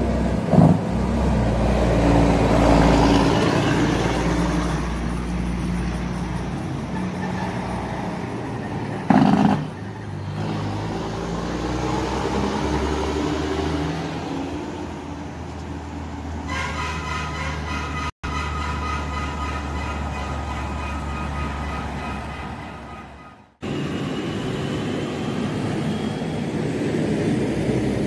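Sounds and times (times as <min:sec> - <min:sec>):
car traffic: 0:00.0 - 0:28.0
heavy diesel truck engine: 0:00.0 - 0:28.0.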